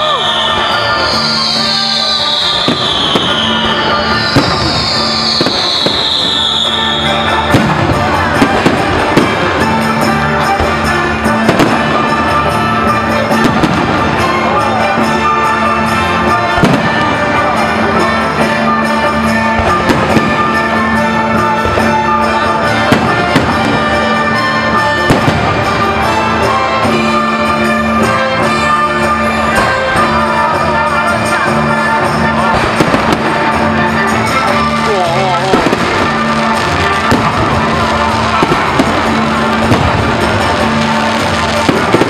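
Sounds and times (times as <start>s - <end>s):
fireworks bursting: 0.0s - 42.0s
orchestral music with brass: 0.0s - 42.0s.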